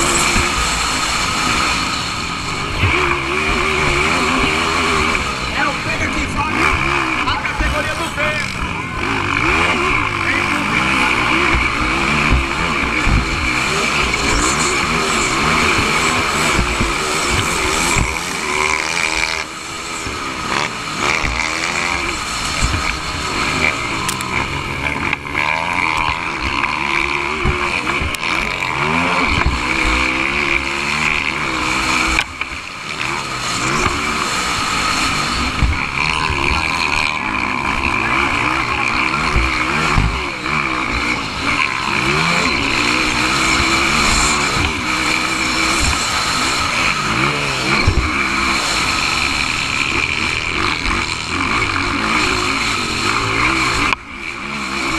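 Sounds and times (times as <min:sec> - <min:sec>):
dirt-bike engines revving: 0:00.0 - 0:54.9.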